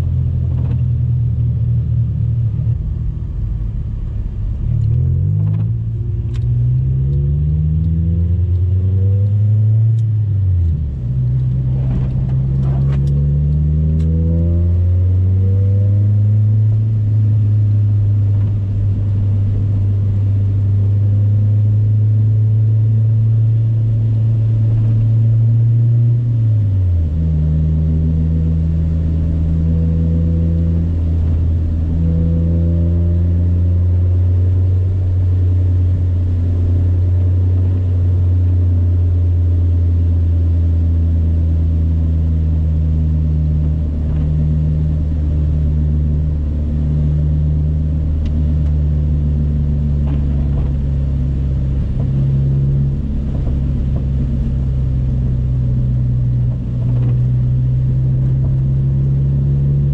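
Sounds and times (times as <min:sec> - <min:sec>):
car engine droning while driving: 0:00.0 - 0:59.9.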